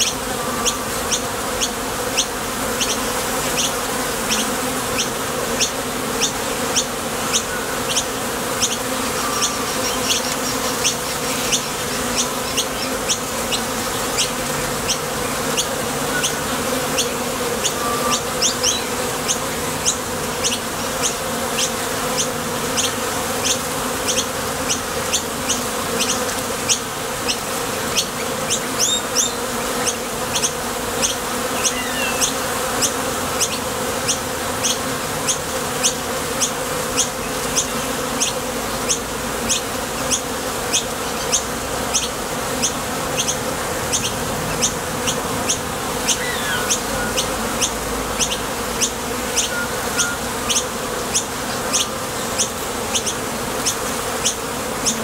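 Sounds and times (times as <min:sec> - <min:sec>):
honeybees humming: 0:00.0 - 0:55.0.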